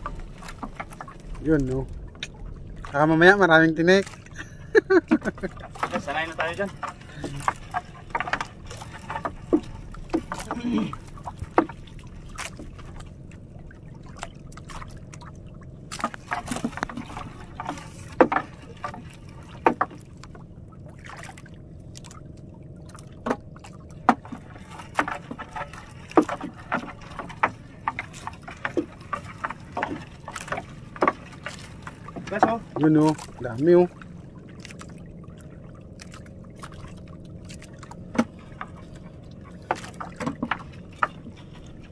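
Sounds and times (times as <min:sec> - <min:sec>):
net knocking against wooden hull: 0:00.0 - 0:04.3, 0:05.0 - 0:13.1, 0:15.9 - 0:20.4, 0:23.0 - 0:35.0, 0:36.0 - 0:41.9
steady low hum: 0:00.0 - 0:41.9
water splashing and dripping: 0:00.0 - 0:41.9.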